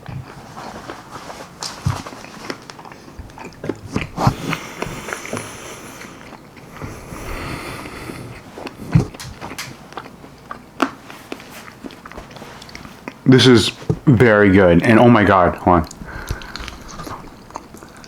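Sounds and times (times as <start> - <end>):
chewing and mouth smacks: 0.0 - 7.2, 7.8 - 14.0, 15.5 - 18.0.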